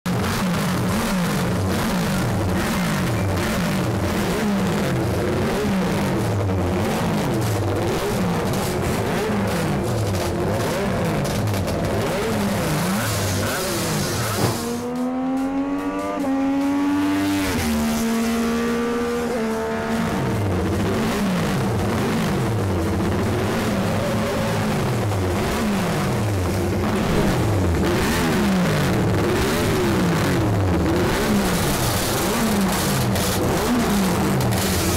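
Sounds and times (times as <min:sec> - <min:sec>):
motorcycle accelerating: 0:00.1 - 0:34.9
motorcycle engine revving: 0:00.1 - 0:34.9.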